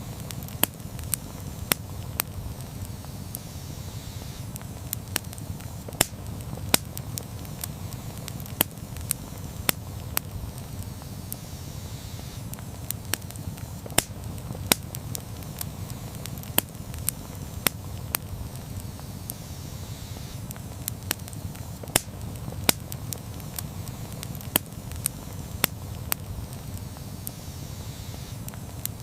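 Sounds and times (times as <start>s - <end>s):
burning wood crackling and popping: 0.0s - 29.0s
rush of flames: 0.0s - 29.0s.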